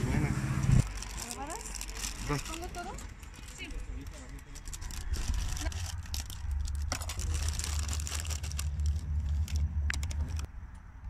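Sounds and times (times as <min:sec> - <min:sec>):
steady low rumble: 0:00.0 - 0:11.0
plastic bag crinkling: 0:00.8 - 0:10.5.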